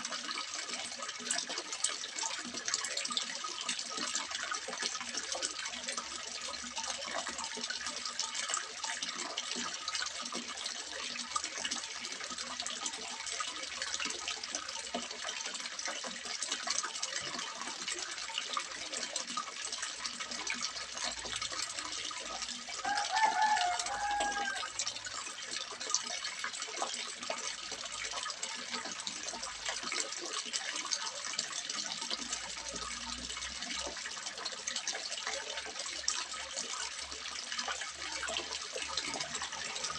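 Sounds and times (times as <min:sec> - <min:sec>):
water splashing into a pond: 0:00.0 - 0:39.9.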